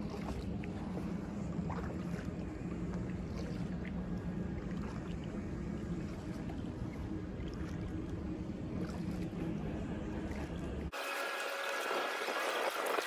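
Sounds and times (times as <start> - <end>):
kayak paddling rumble: 0.0 - 10.9
water drips and splashes: 0.0 - 13.0.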